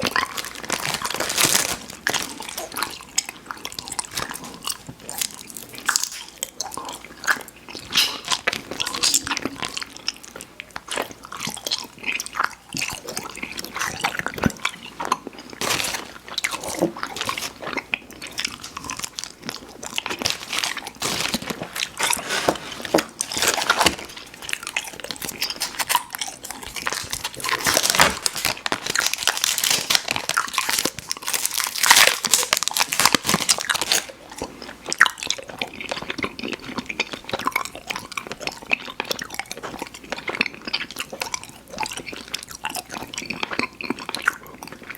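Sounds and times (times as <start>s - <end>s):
mouth chewing sticky candy: 0.0s - 44.9s.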